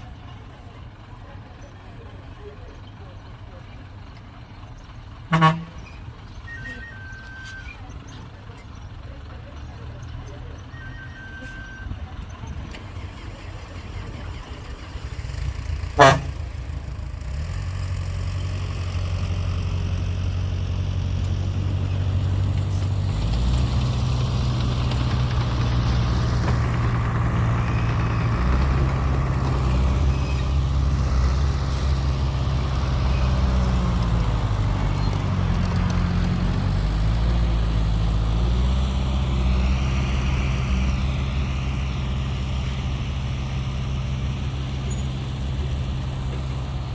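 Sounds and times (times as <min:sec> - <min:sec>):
heavy diesel engine under load: 0:00.0 - 0:46.9.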